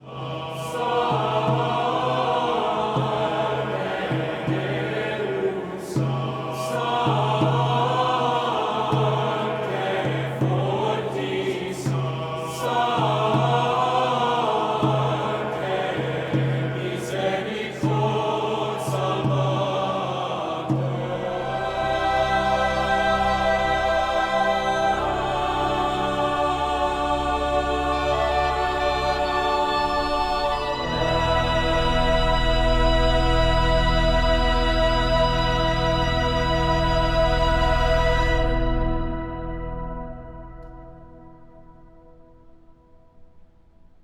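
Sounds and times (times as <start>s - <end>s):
choir singing choral music: 0.0s - 42.7s.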